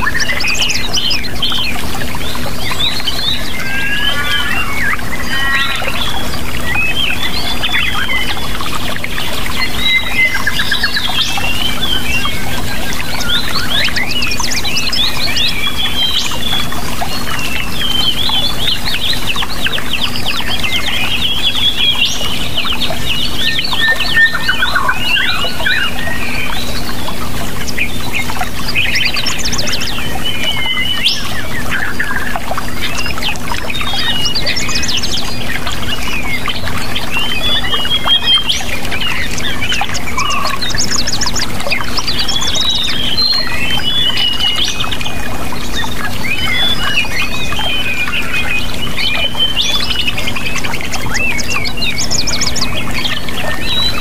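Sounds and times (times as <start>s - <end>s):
birds chirping and singing: 0.0s - 54.0s
rushing water: 0.0s - 54.0s.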